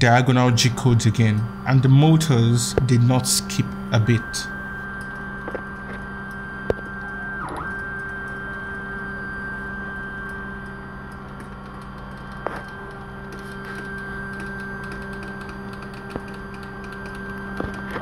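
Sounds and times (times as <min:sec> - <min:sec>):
stepper motors whining: 0:00.0 - 0:18.0.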